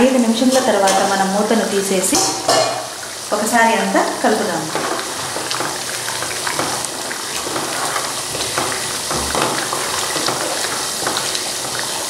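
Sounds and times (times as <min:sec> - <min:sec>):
curry simmering sizzling hiss: 0:00.0 - 0:12.0.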